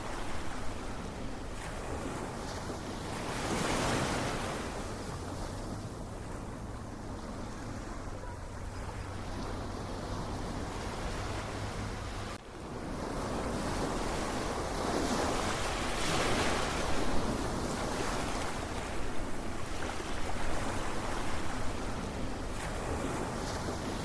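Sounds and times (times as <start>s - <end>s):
ocean wave breaking: 0.0s - 24.0s.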